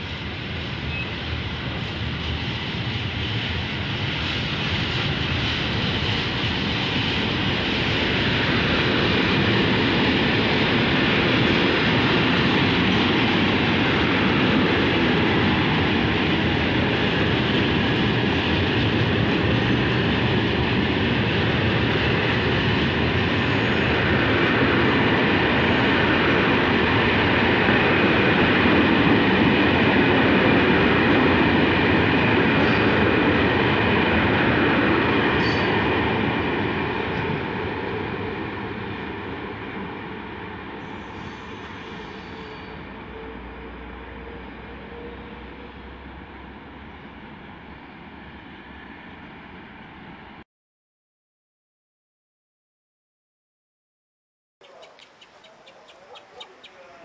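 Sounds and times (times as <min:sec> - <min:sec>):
freight train rolling past: 0:00.0 - 0:50.4.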